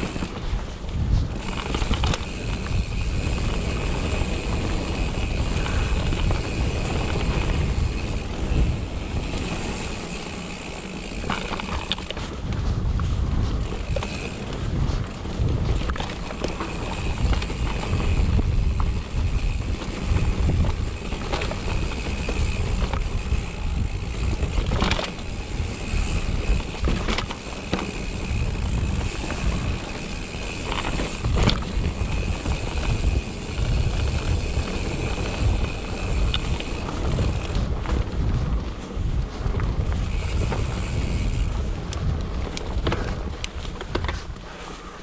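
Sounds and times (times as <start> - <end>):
bike tyres rumbling over rock: 0.0 - 44.3
bike knocking and rattling: 0.0 - 45.0
wind on microphone: 0.0 - 45.0.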